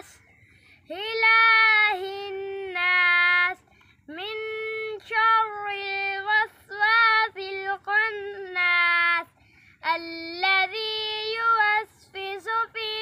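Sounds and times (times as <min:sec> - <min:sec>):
boy chanting melodically: 0:00.0 - 0:13.0.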